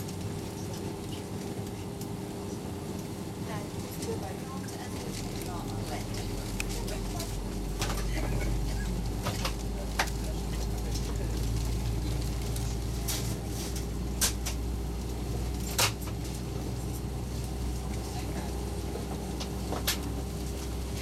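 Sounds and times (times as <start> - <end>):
airliner cabin hum: 0.0 - 21.0.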